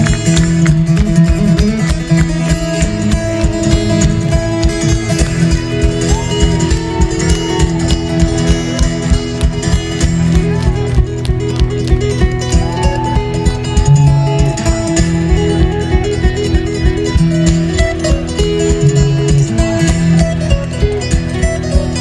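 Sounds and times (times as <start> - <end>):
fingerpicked acoustic guitar: 0.0 - 22.0.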